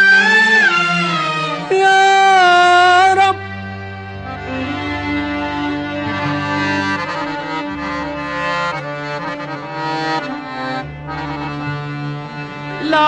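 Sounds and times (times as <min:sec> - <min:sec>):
orchestral ensemble playing chords: 0:00.0 - 0:13.0.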